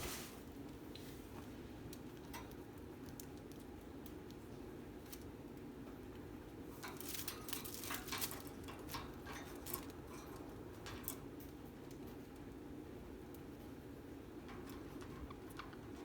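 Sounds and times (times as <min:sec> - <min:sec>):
birds scratching and clicking: 0:01.8 - 0:16.0.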